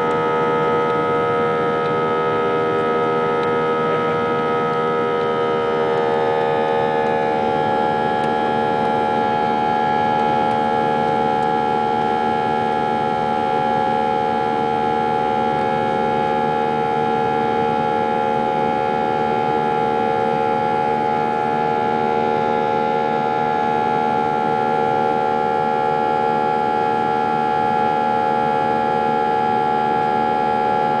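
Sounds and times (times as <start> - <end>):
jet engine whine: 0.0 - 31.0.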